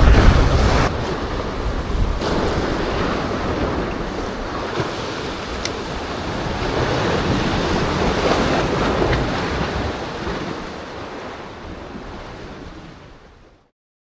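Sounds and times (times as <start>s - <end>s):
wind buffeting microphone: 0.0s - 13.6s
sea waves washing in: 0.0s - 13.7s.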